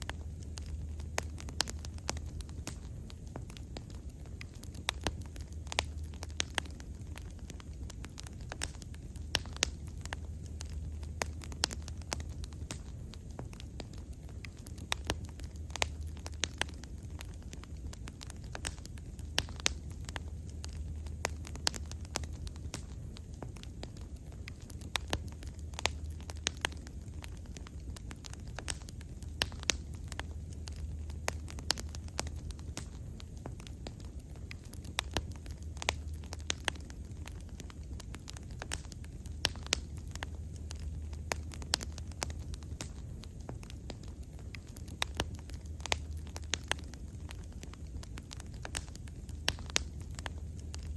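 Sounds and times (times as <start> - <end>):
bonfire crackling and popping: 0.0 - 50.9
low steady rumble: 0.0 - 50.9.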